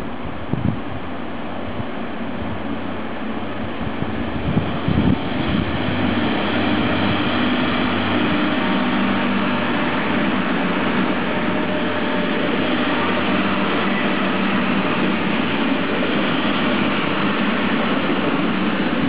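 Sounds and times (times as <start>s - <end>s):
diesel engine drone: 0.0s - 19.0s
wheels rolling on rail: 0.0s - 19.0s.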